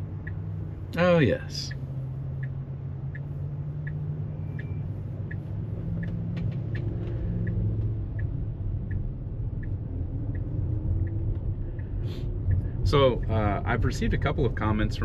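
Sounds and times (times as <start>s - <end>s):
road and tyre rumble in car: 0.0s - 15.0s
turn signal ticking: 0.0s - 15.0s.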